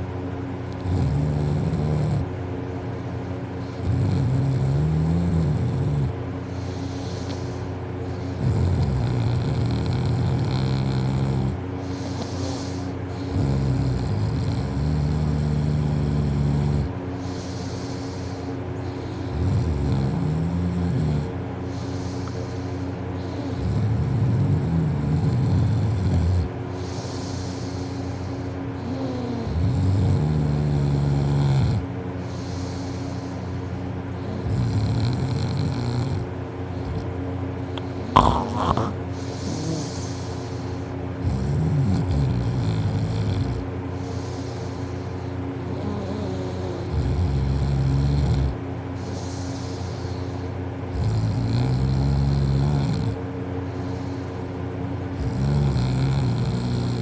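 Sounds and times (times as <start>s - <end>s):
quiet breathing: 0.6s - 57.0s
person snoring loudly: 0.7s - 2.3s, 3.6s - 33.6s, 34.2s - 37.1s, 37.8s - 54.3s, 55.1s - 57.0s.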